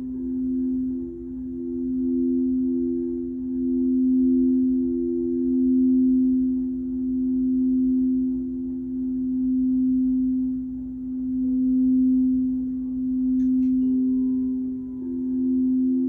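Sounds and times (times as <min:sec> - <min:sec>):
singing bowls droning: 0:00.0 - 0:16.0.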